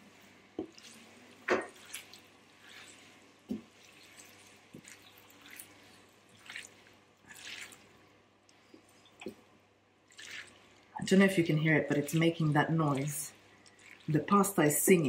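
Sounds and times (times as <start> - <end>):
pasta squelching and sizzling: 0.0 - 15.0.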